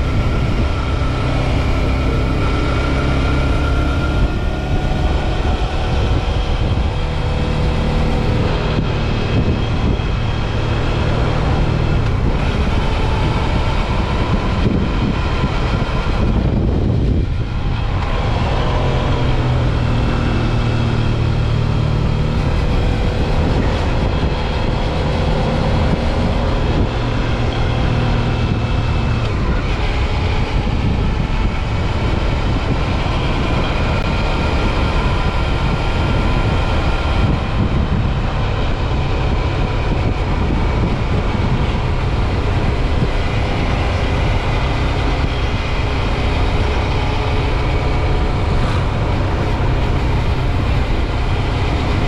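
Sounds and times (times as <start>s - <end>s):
motorcycle engine running: 0.0s - 52.0s
wind noise: 0.0s - 52.0s.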